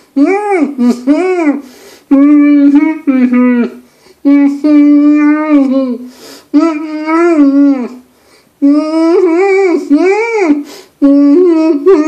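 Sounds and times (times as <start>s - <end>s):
man humming and babbling: 0.2s - 8.0s, 8.6s - 12.0s.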